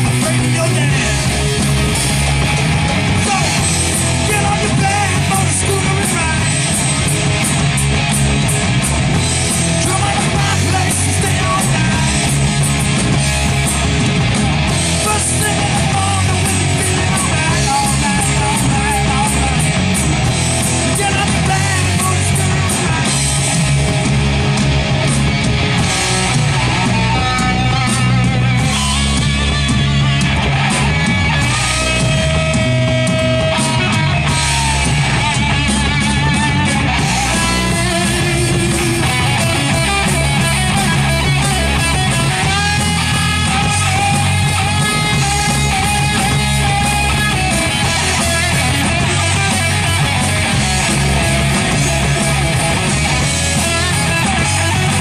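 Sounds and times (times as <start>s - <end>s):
distorted electric guitar: 0.0s - 55.0s
live rock band: 0.0s - 55.0s.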